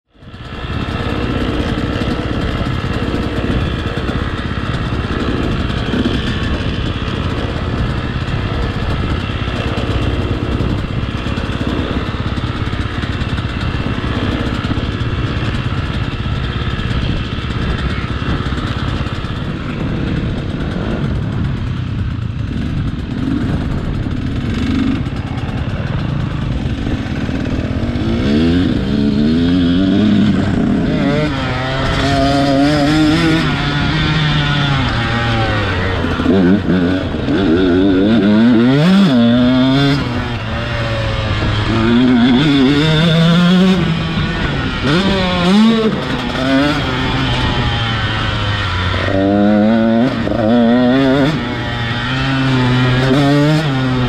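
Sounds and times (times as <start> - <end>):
two-stroke motorbike engine: 0.1 - 54.0.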